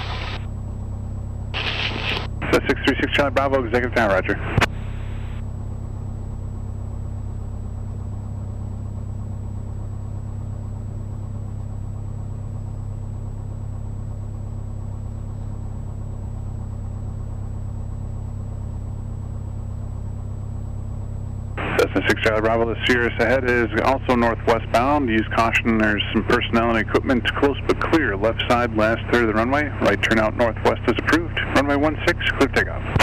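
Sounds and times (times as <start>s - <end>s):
aircraft piston engine idling: 0.0s - 33.0s.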